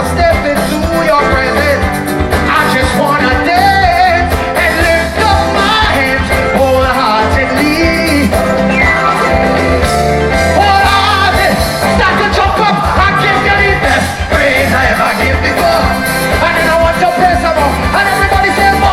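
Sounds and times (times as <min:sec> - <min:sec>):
bass line: 0:00.0 - 0:18.9
live band playing soca: 0:00.0 - 0:18.9
person singing: 0:00.0 - 0:18.9.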